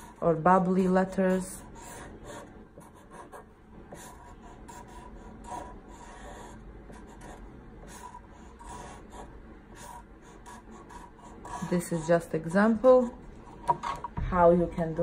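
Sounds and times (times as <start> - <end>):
marker scratching on paper: 0.0 - 14.1.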